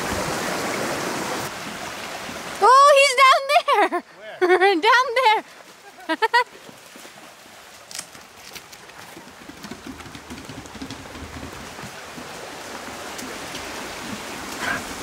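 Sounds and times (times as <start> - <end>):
water rushing in rocky creek: 0.0 - 15.0.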